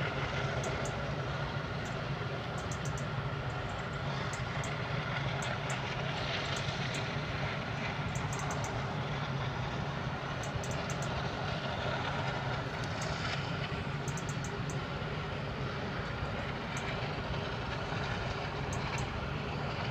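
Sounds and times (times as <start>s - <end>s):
low even hum: 0.0s - 19.9s
power plant rushing roar: 0.0s - 19.9s.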